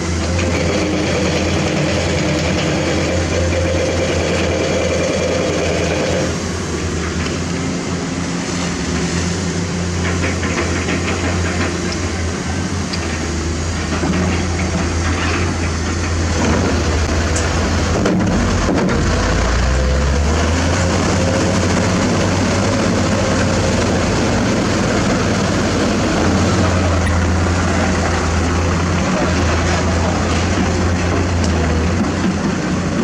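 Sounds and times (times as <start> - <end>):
diesel machinery engines droning: 0.0 - 33.0.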